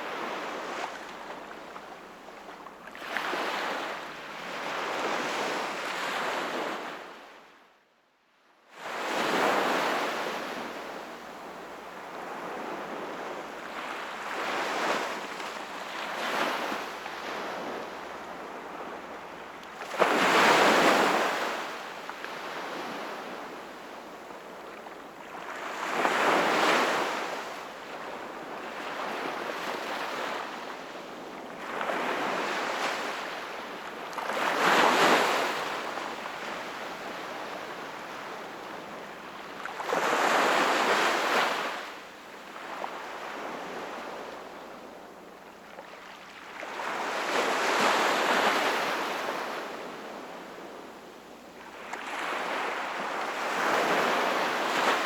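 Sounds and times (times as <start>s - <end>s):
sea waves surging and washing back: 3.0s - 7.2s, 8.8s - 55.0s.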